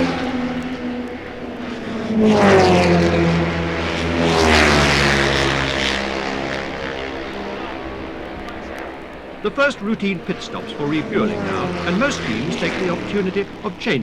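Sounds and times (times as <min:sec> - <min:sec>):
racing cars passing: 0:00.0 - 0:14.0.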